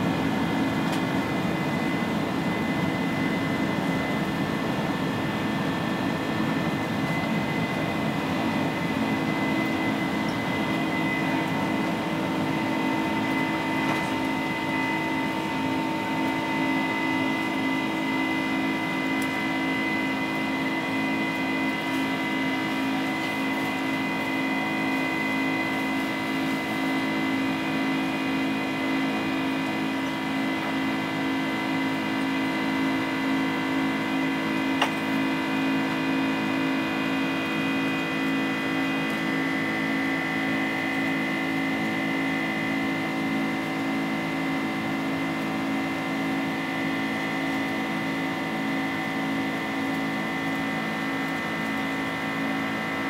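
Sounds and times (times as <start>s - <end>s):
jet engine drone and fan whine: 0.0s - 53.0s.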